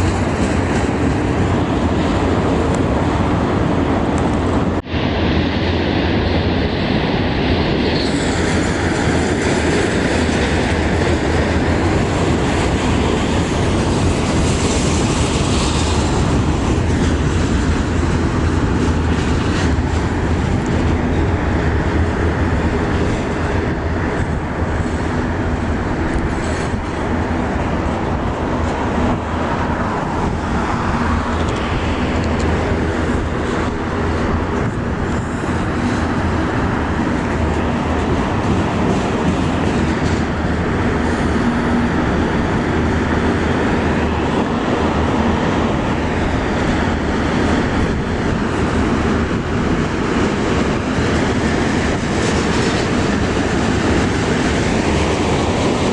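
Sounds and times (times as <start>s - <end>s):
freight train rumbling past: 0.0s - 55.9s
wheels clicking over rail joints: 9.2s - 55.9s.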